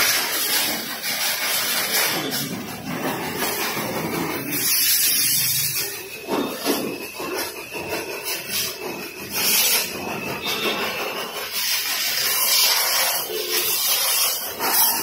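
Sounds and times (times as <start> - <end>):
pressure washer water jet spraying: 0.0 - 15.0.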